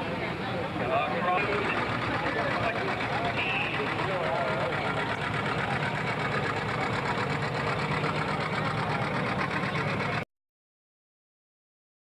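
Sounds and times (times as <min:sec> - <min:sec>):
diesel engine running: 0:00.0 - 0:10.2.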